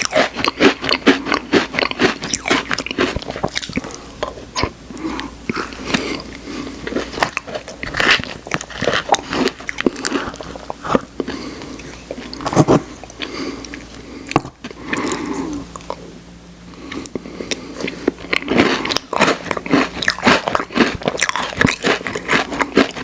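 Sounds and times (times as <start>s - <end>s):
chewing crunchy ice cream: 0.0s - 16.1s, 16.7s - 23.0s.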